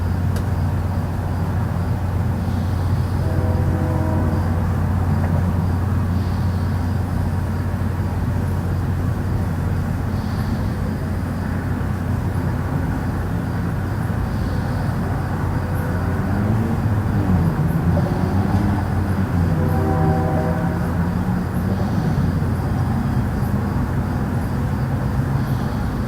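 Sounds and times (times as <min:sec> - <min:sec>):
low rumbling drone: 0:00.8 - 0:26.0.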